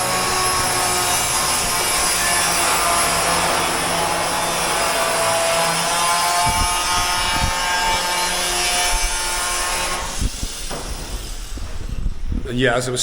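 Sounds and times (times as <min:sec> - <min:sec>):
power tool grinding: 0:00.0 - 0:12.1.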